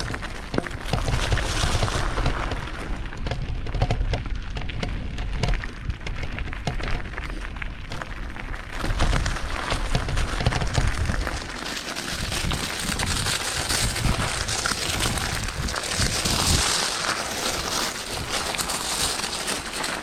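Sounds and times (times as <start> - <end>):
bike clicks and rattles: 0.0 - 20.0
bike tyres crunching on stones: 0.0 - 20.0.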